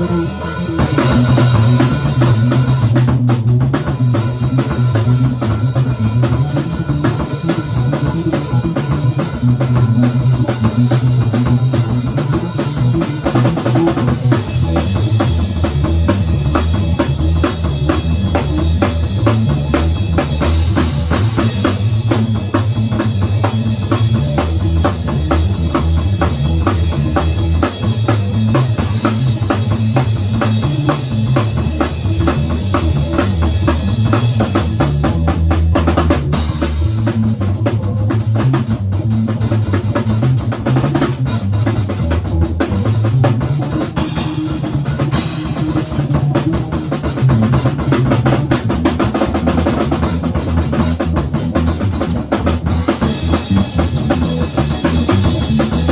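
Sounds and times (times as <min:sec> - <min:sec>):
bass guitar line: 0:00.0 - 0:55.9
drum kit playing: 0:00.0 - 0:55.9.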